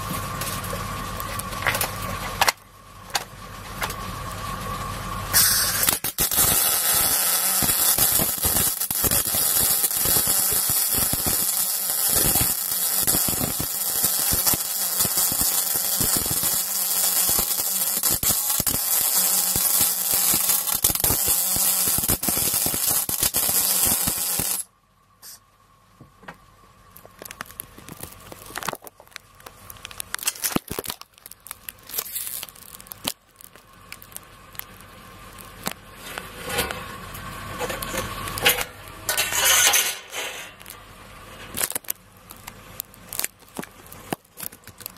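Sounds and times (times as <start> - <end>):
welding arc crackling: 5.3 - 25.4, 26.9 - 40.8, 41.5 - 44.9.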